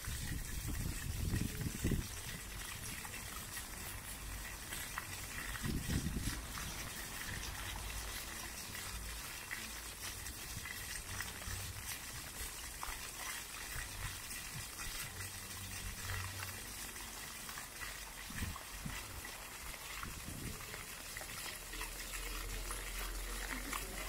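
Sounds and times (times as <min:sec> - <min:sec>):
fountain jets splashing on paving: 0:00.0 - 0:24.0.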